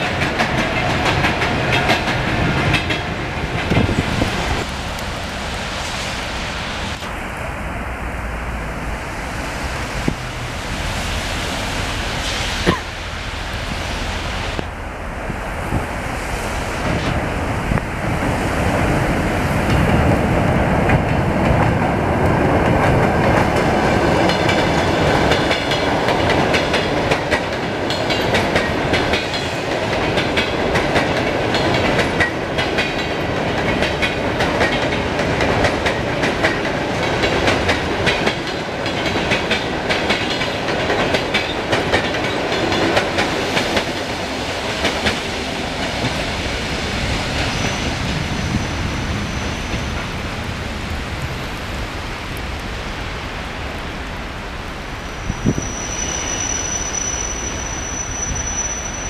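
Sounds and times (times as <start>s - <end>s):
rail joints clickety-clack: 0.0s - 59.0s
train wheels rumbling on track: 0.0s - 59.0s.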